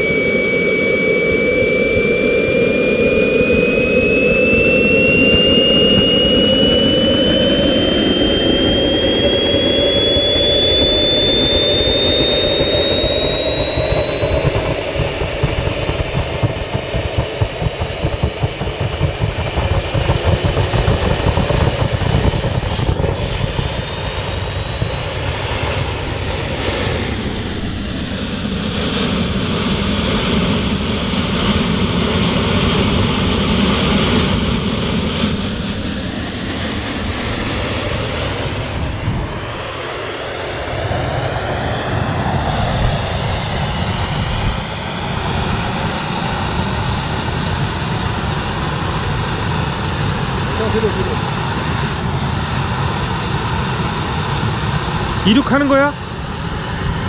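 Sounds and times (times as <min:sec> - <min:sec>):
model jet turbine whining: 0:00.0 - 0:57.0.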